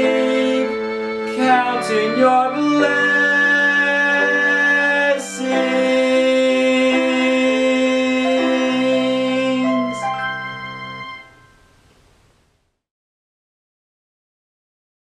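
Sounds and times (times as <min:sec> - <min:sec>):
long held instrumental chords: 0:00.0 - 0:12.2.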